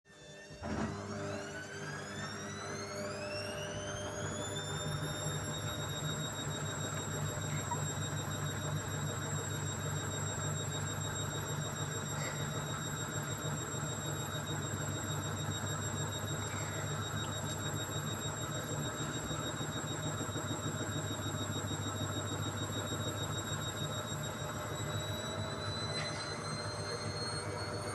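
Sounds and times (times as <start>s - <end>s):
washing machine motor whine: 0.1s - 27.9s.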